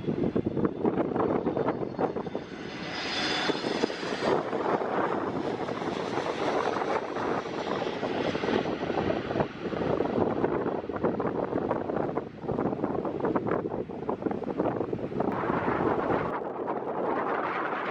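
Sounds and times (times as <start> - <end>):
high jet whine: 0.0 - 17.9
jet engines rushing: 0.0 - 17.9.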